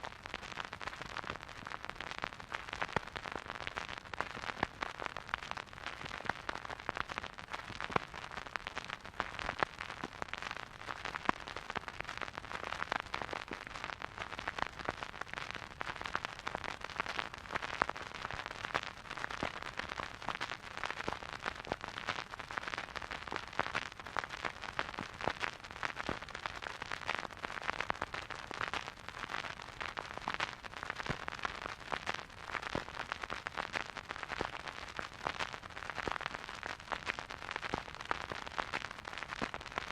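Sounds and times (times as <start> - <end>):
vinyl record crackling: 0.0 - 39.9.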